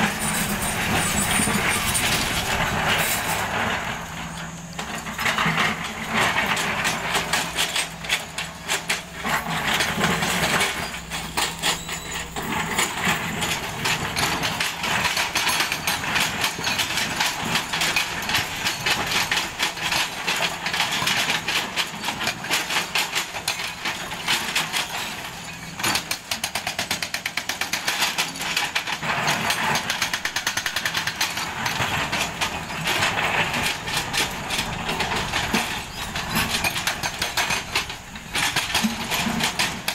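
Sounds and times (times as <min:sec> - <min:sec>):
hydraulic breaker hammering rock: 0:00.0 - 0:39.9.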